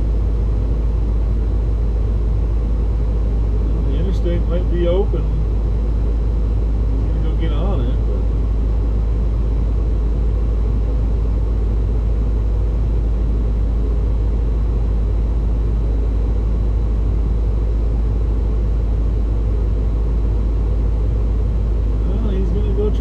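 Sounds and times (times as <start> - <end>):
vehicle running low rumble: 0.0 - 23.0.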